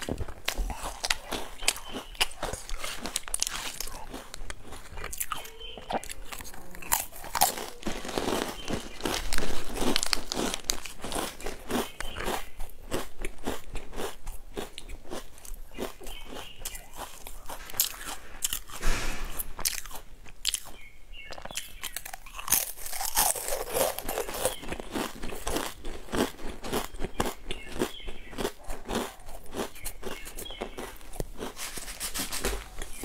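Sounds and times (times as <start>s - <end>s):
biscuit crunching: 0.0s - 18.8s, 19.5s - 33.0s.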